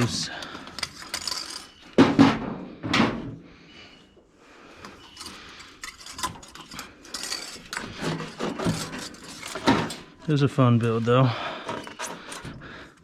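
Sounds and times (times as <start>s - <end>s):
tools and metal parts clanking: 0.0s - 2.5s, 4.8s - 13.0s.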